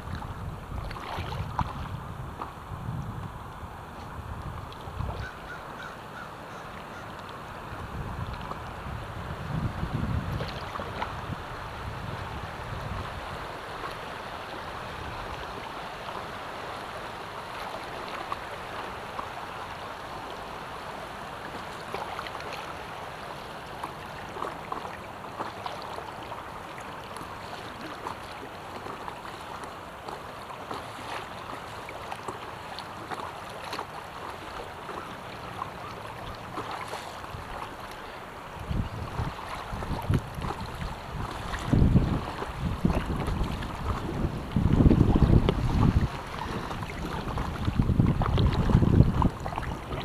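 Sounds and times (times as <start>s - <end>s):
paddle splashes and taps: 0.0s - 20.6s, 21.3s - 50.0s
water lapping against hull: 0.0s - 50.0s.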